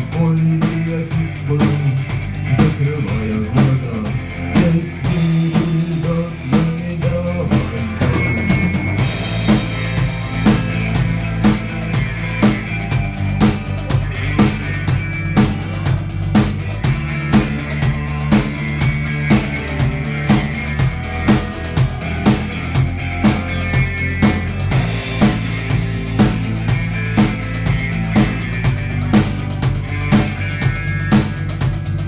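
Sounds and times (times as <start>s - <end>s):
drum kit beat: 0.0s - 32.0s
sustained low notes: 1.2s - 32.0s.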